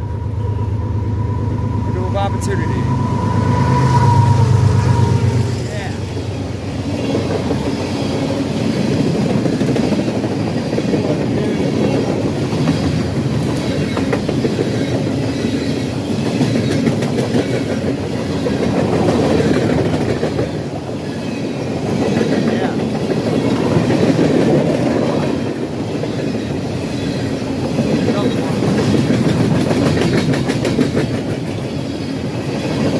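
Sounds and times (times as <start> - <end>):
train wheels clattering on rails: 5.7 - 32.9.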